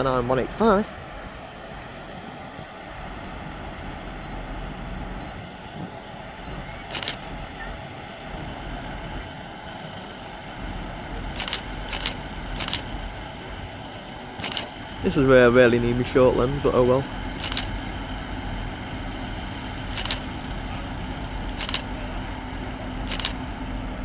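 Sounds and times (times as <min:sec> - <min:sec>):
train engine rumble: 0:00.0 - 0:24.0.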